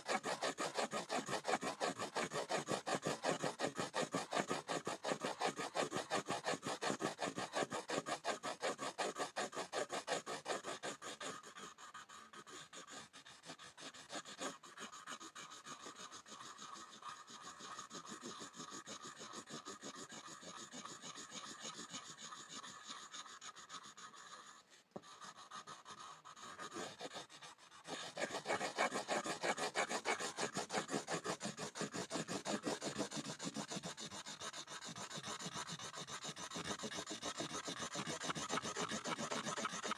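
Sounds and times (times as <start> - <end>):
pencil scribbling on a board: 0.0 - 39.9.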